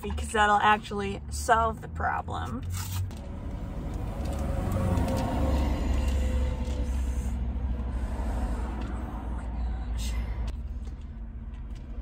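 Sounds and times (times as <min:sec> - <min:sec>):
vehicle rumble inside car: 0:00.0 - 0:12.0.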